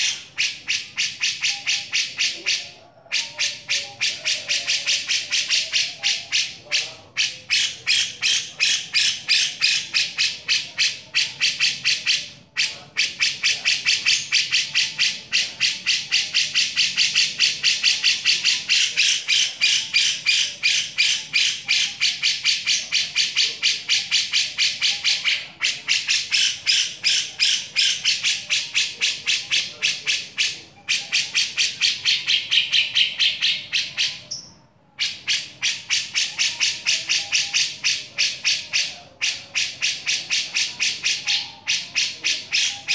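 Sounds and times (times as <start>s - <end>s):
bird chattering rapidly: 0.0s - 42.9s.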